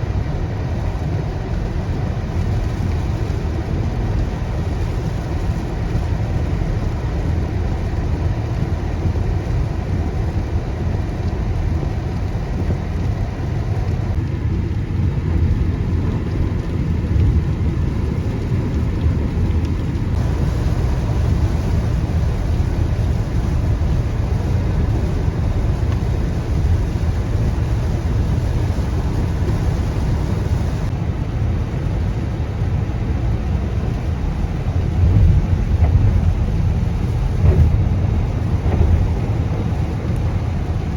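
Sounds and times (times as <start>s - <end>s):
car driving through heavy rain: 0.0s - 40.9s.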